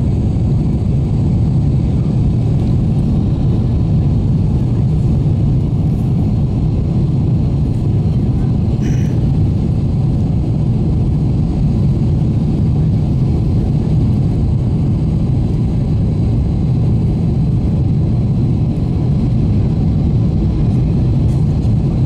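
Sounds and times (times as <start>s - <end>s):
jet cabin engine rumble: 0.0s - 22.0s.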